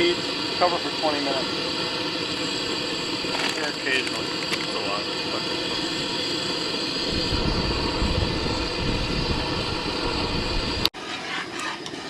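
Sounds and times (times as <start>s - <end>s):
camp stove burner hissing: 0.0s - 12.0s.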